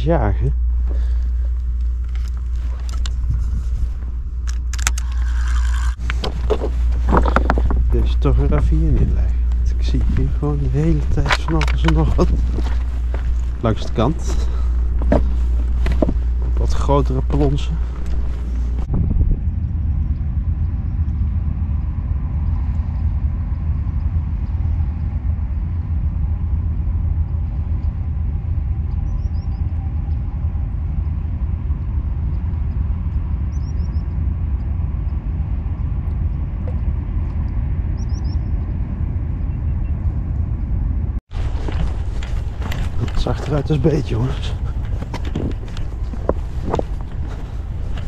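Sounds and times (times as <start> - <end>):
wind rumbling on microphone: 0.0 - 48.0.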